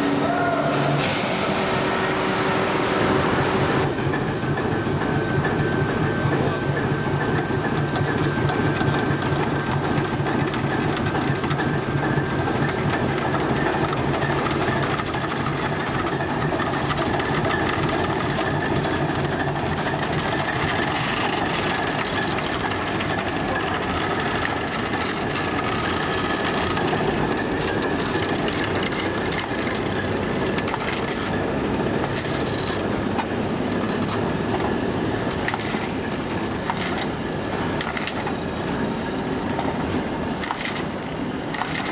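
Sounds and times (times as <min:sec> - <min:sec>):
train rumbling on track: 0:00.0 - 0:41.9.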